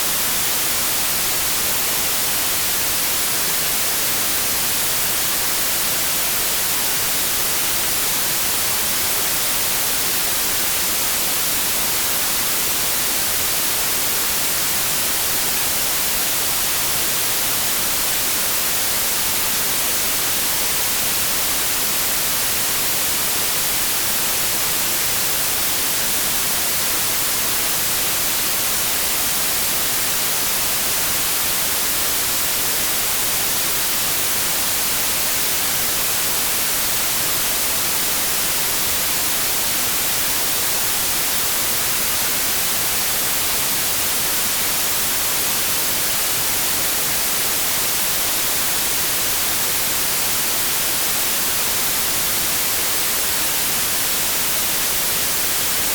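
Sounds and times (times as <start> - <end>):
white noise static hiss: 0.0 - 55.9.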